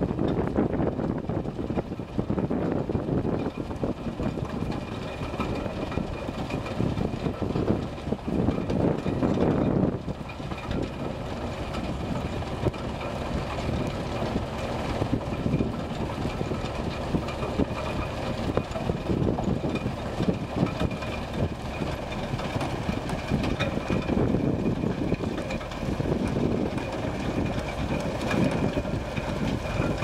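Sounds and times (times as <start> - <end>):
machine drone with rattling: 0.0 - 30.0.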